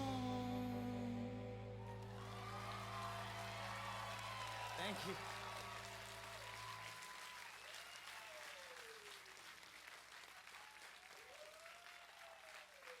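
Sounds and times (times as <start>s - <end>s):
faint audience applause: 1.7s - 13.0s.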